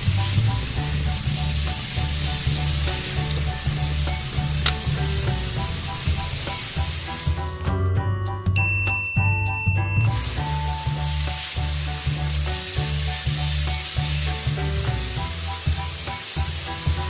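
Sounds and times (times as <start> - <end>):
steady hiss: 0.0 - 7.4, 10.1 - 17.0
music with pulsing bass beat: 0.0 - 17.0.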